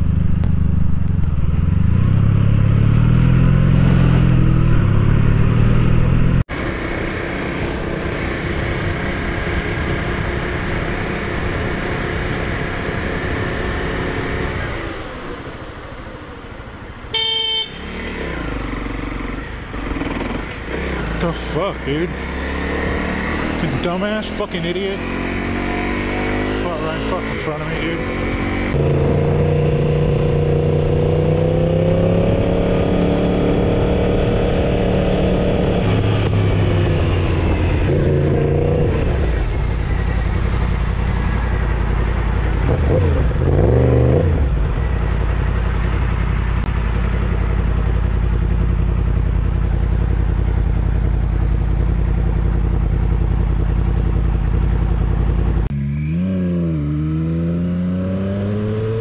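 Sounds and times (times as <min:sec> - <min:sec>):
motorcycle engine revving: 0:00.0 - 0:15.8, 0:17.2 - 0:59.0.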